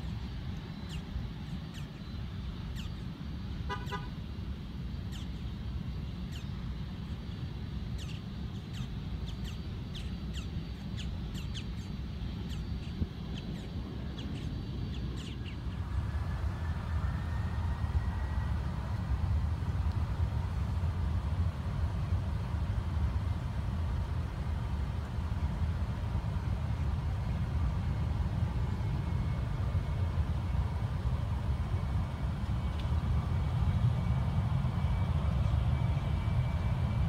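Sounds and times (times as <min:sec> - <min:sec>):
jet engine rising whine: 0:00.0 - 0:37.0
jet engines rumbling: 0:00.0 - 0:37.0.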